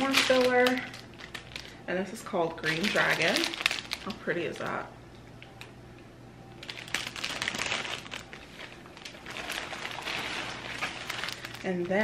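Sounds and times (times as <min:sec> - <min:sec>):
plastic sleeve crinkling: 0:00.0 - 0:04.8, 0:06.6 - 0:12.0.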